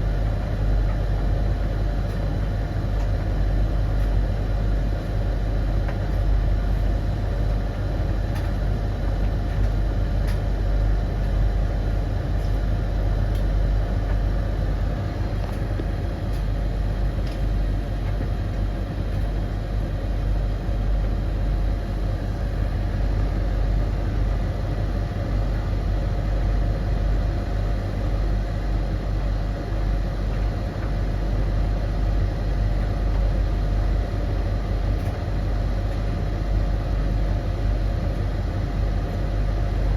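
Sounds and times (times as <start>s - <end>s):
tumble dryers humming: 0.0s - 39.9s.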